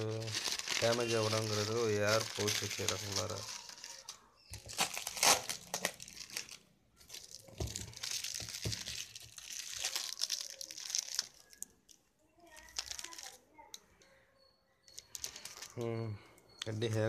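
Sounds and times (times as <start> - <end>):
plastic packaging crinkling: 0.0 - 13.5, 14.9 - 16.0.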